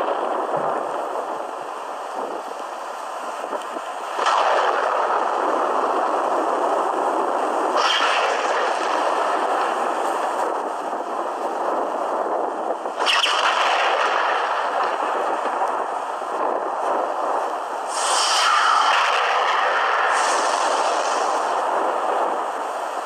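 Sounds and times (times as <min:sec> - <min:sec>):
thunder cracks and rumble: 0:00.0 - 0:02.6, 0:03.5 - 0:23.0.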